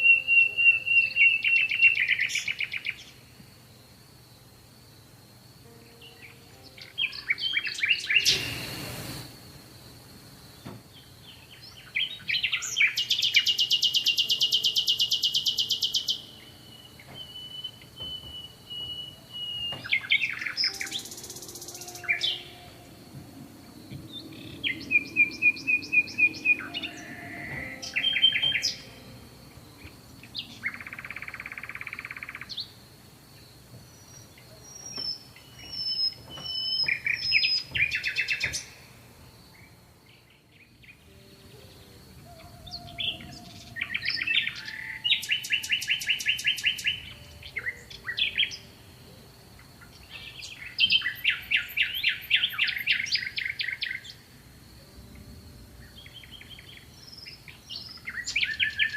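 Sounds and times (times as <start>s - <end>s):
faint steady high tone: 0.0s - 32.8s, 34.0s - 58.9s
songbirds singing: 0.0s - 58.9s.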